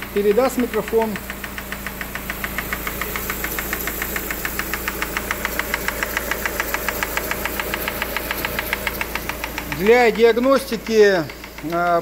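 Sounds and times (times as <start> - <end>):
car engine idling: 0.0 - 12.0
fast metallic engine ticking: 0.0 - 12.0.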